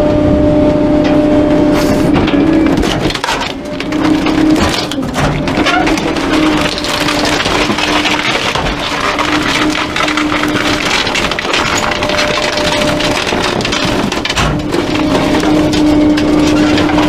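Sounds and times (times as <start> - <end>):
hydraulic hum: 0.0 - 17.0
wood cracking and splintering: 2.2 - 17.0.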